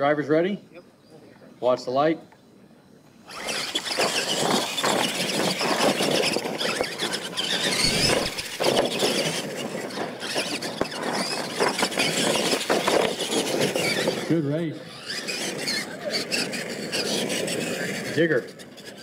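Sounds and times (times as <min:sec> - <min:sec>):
electric motor and gear whine: 0:03.0 - 0:19.0
tyres scrabbling on dirt: 0:03.2 - 0:19.0.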